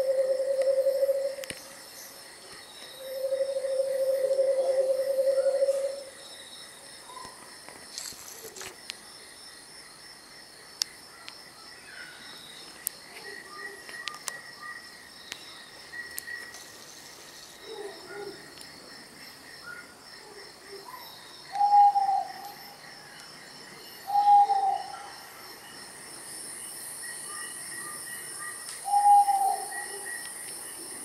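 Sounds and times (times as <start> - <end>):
crickets and insects trilling: 0.0 - 31.0.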